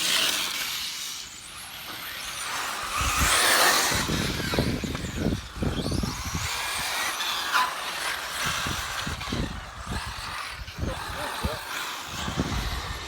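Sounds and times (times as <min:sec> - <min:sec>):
radio-controlled car motors whining: 0:00.0 - 0:13.0.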